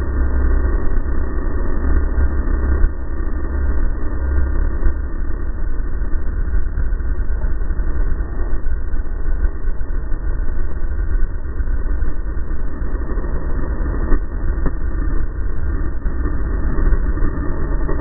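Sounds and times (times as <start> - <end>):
snowmobile engine at speed: 0.0 - 18.0
wind rumble on microphone: 0.0 - 18.0.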